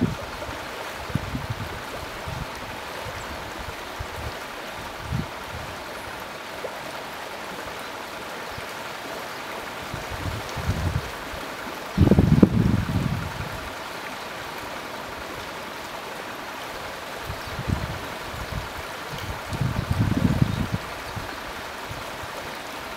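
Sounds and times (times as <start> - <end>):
river rushing: 0.0 - 22.9.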